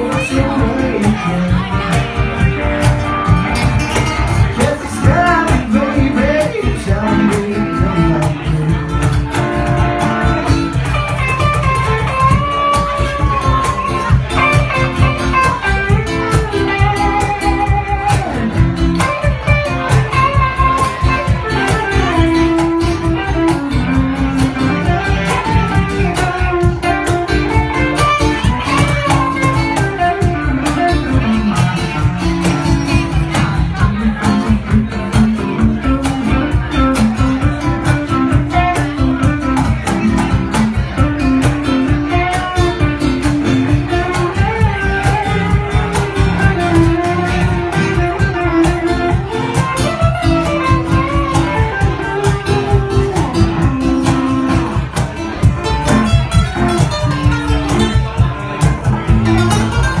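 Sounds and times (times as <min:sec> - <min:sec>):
acoustic guitar: 0:00.0 - 1:00.0
cajon beat: 0:00.0 - 1:00.0
electric guitar: 0:00.0 - 1:00.0.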